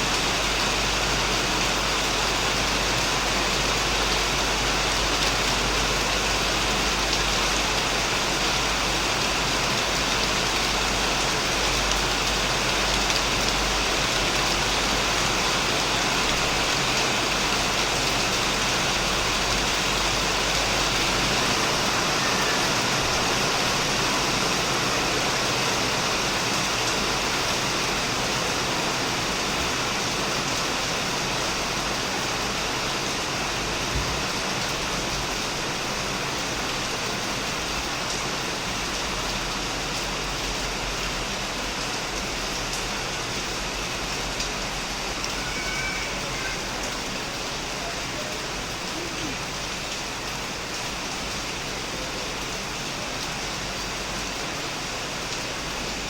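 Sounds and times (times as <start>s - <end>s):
heavy rain on a shed: 0.0s - 56.0s.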